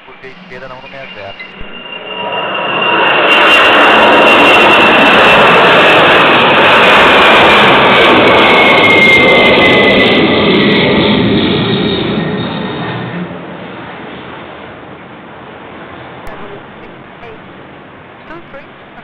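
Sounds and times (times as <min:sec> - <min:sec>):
jet engines rumbling and whining: 0:00.0 - 0:19.0.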